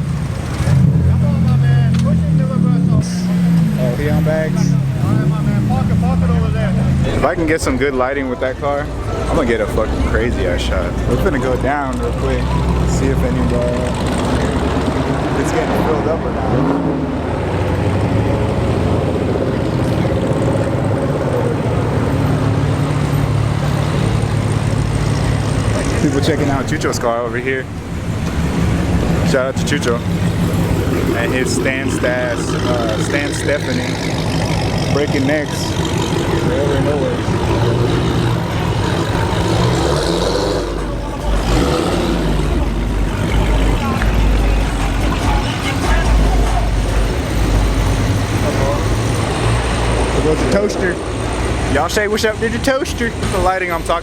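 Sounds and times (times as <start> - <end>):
car engine idling: 0.0 - 54.0
faint voices talking: 0.6 - 54.0.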